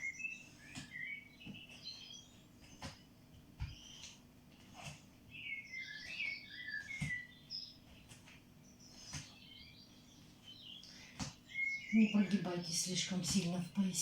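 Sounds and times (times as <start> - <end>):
bird chirping and twittering: 0.0 - 14.0.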